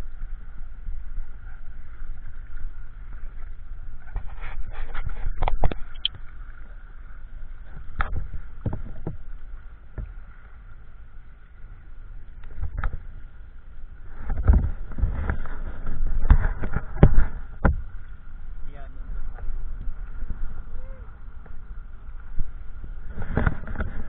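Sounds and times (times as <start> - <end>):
muffled water movement: 0.0 - 24.0.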